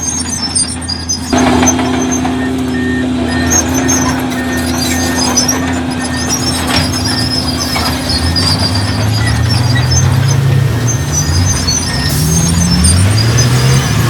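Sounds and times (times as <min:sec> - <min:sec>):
heavy diesel engine revving: 0:00.0 - 0:14.0.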